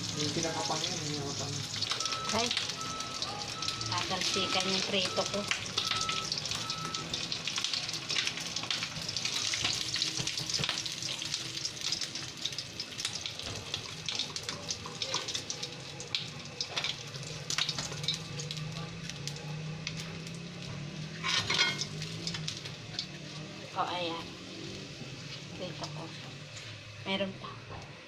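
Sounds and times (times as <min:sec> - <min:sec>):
fish frying in hot oil: 0:00.0 - 0:27.4.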